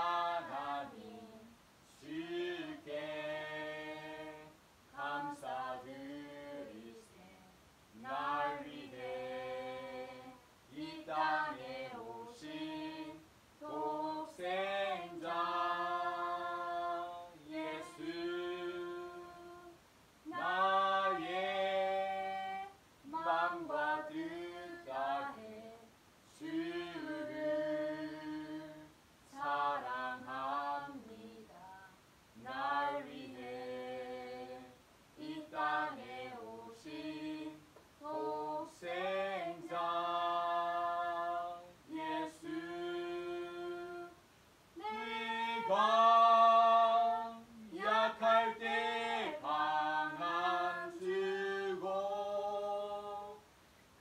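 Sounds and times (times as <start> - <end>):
man singing unaccompanied: 0.0 - 44.2, 44.8 - 53.5.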